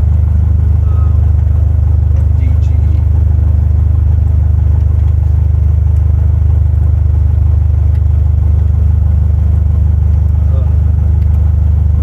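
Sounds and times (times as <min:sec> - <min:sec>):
airplane propeller engine humming: 0:00.0 - 0:12.0.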